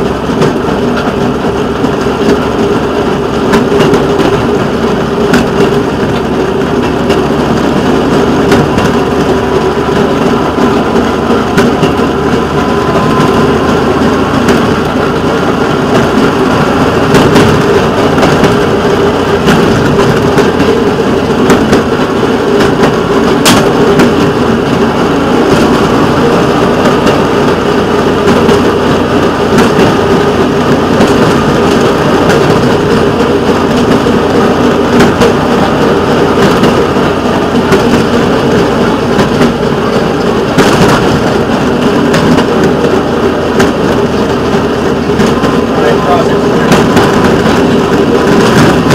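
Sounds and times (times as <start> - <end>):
rail vehicle engine running: 0.0 - 48.9
wheels clicking on rails: 0.0 - 48.9.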